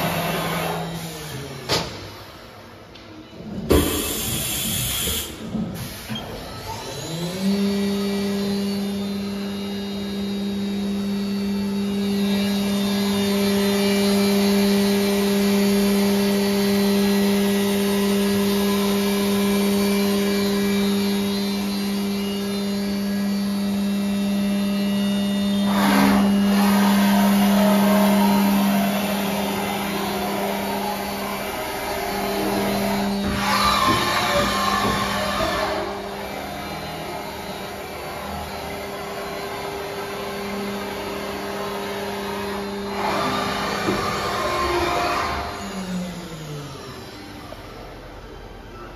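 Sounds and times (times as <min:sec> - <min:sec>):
spindle motor humming: 0:03.8 - 0:48.7.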